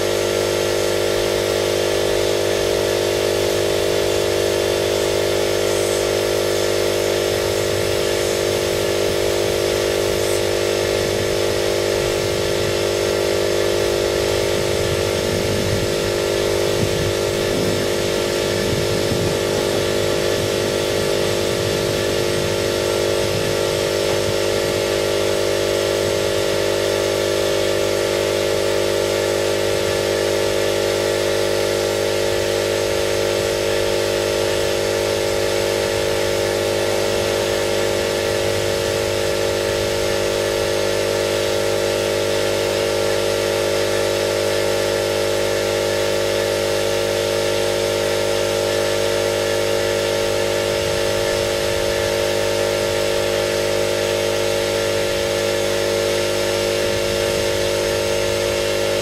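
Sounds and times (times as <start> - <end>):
air compressor humming: 0.0 - 59.0.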